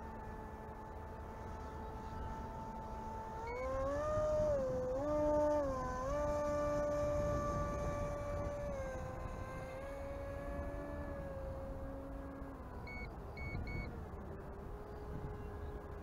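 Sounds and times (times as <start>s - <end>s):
model plane motor whine: 0.0s - 16.0s
wind on microphone: 0.0s - 16.0s.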